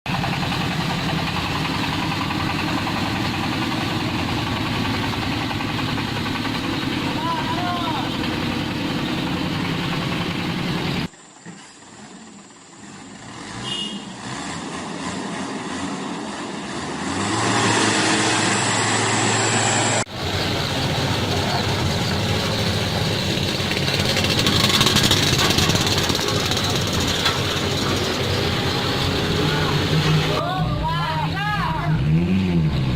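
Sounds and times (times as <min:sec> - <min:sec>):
motor engine running: 0:00.1 - 0:14.0, 0:18.0 - 0:31.0.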